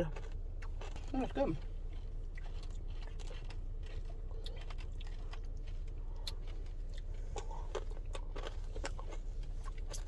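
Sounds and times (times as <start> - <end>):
person chewing: 0.0 - 10.0
steady low hum: 0.0 - 10.0.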